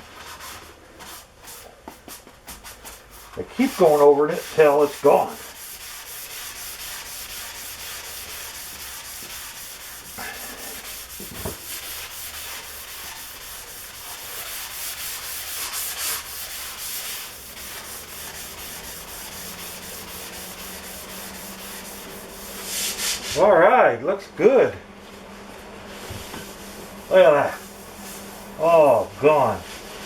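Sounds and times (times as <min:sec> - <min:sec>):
sanding metal surface: 0:02.7 - 0:23.5, 0:26.4 - 0:30.0.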